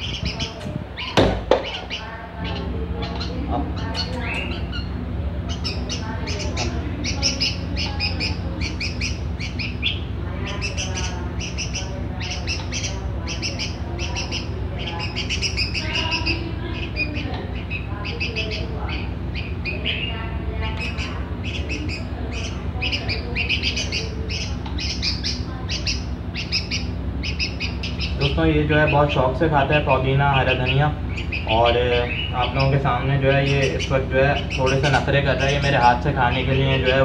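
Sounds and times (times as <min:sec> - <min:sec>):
bird begging chirps: 0:00.0 - 0:37.0
steady low hum: 0:00.0 - 0:37.0.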